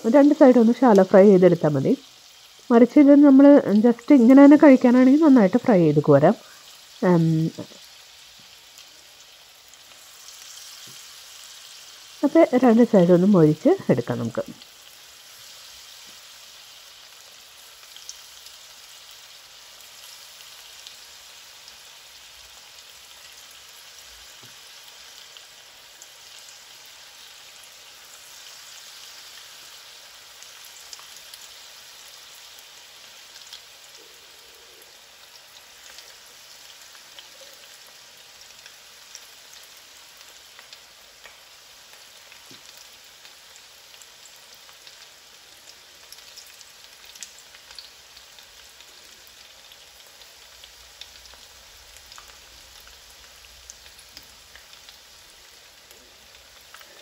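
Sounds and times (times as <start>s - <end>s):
frying sizzle with crackles: 0.0s - 57.0s.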